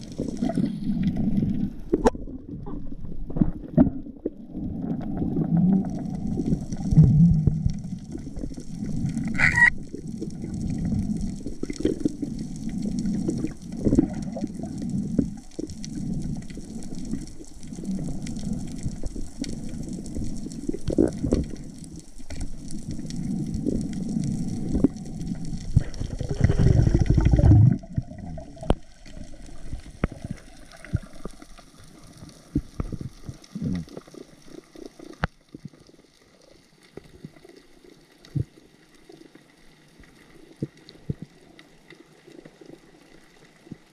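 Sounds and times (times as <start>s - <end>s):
underwater water rush and gurgle: 0.0s - 43.9s.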